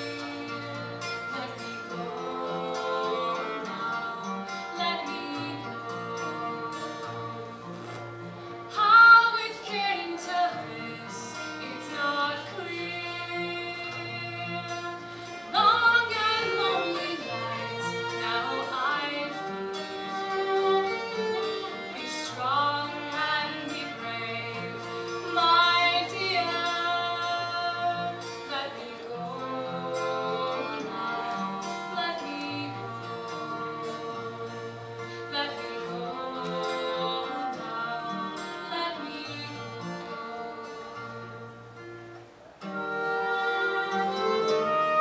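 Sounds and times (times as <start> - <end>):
woman singing: 0.0 - 7.8, 8.7 - 41.5, 43.2 - 45.0
fiddle: 0.0 - 45.0
strummed acoustic guitars: 0.0 - 45.0.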